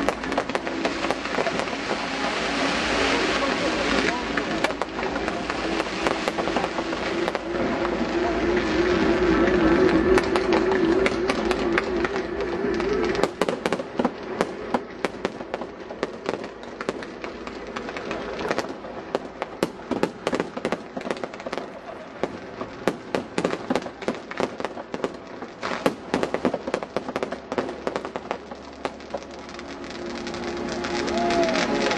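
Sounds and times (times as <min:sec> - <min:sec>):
fireworks popping and crackling: 0:00.0 - 0:31.9.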